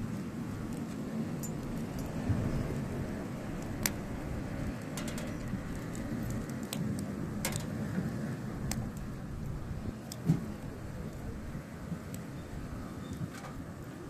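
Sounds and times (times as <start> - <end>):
firewood crackling and popping: 0.0 - 14.0
low fire rumble: 0.0 - 14.0.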